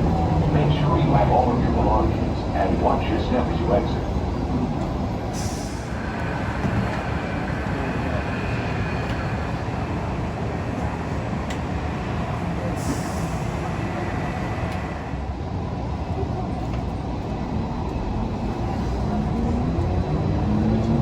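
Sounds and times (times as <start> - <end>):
train running rumble: 0.0 - 21.0.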